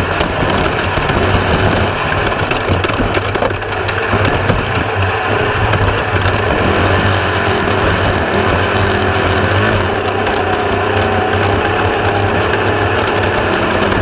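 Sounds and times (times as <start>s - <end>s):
race car engine drone: 0.0s - 14.0s
rattles and knocks: 0.0s - 14.0s.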